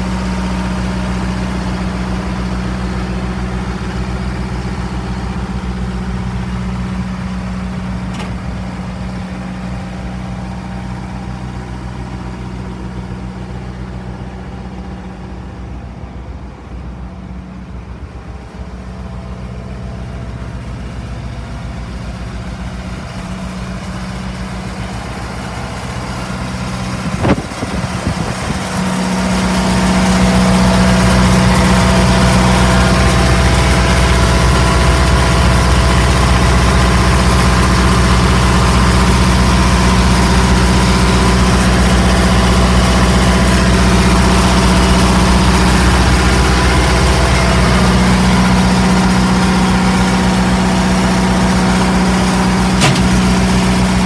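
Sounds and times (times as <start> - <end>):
truck engine humming: 0.0 - 54.0.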